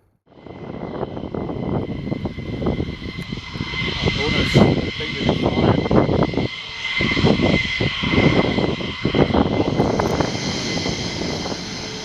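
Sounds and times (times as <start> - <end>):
aircraft engine whine: 0.0 - 12.0
low rumbling gusts: 0.0 - 12.0.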